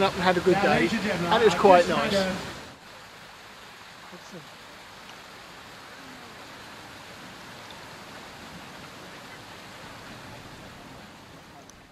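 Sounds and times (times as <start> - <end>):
flowing water: 0.0 - 11.9.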